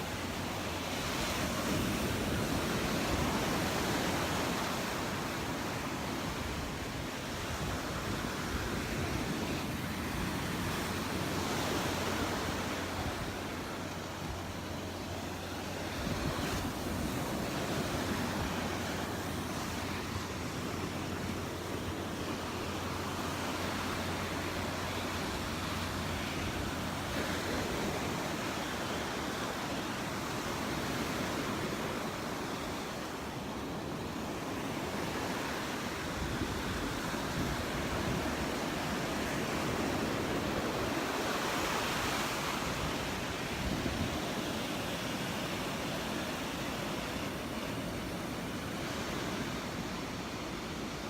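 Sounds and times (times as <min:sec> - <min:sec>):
surf washing onto beach: 0:00.0 - 0:51.0.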